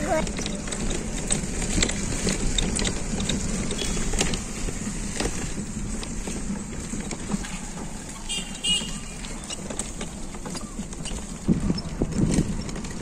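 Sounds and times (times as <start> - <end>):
frame rattling and clicking: 0.0 - 13.0
wheels rumbling on rough road: 0.0 - 13.0.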